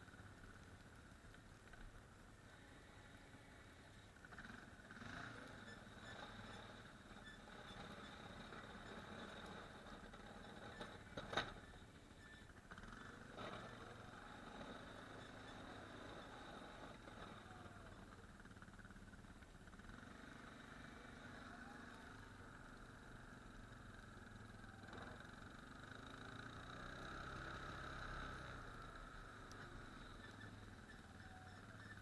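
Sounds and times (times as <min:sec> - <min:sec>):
faint atv engine running: 0:00.0 - 0:32.0.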